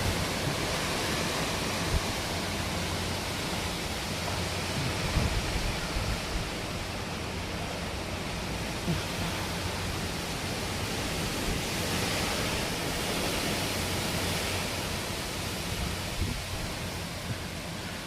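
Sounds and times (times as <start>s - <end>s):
strong wind blowing: 0.0s - 7.4s, 8.8s - 18.0s.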